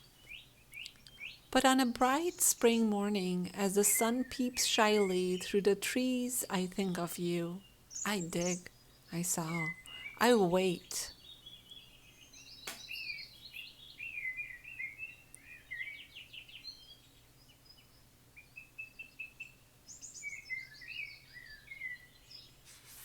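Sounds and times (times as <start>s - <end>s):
songbirds chirping and singing: 0.0s - 22.6s.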